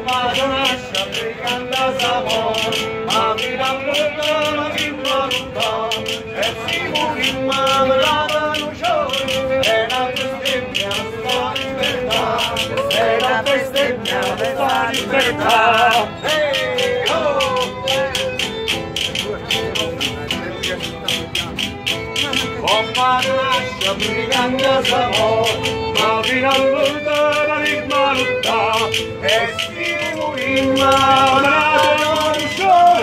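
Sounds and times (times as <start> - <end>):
man singing: 0.0 - 18.5, 22.2 - 33.0
strummed acoustic guitar: 0.0 - 33.0.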